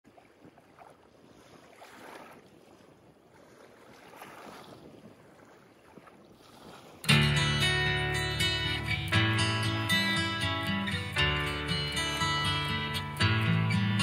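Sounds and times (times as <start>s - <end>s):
wind: 0.0s - 14.0s
small waves washing onto beach: 0.1s - 14.0s.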